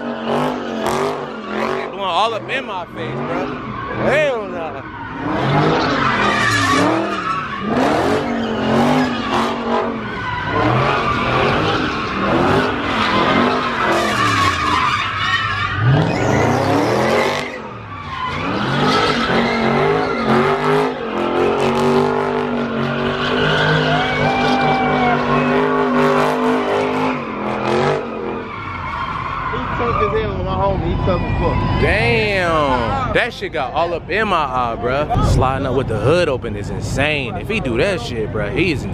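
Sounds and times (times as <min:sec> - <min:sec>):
tyres squealing: 0:00.0 - 0:35.0
car engine revving: 0:00.0 - 0:38.9.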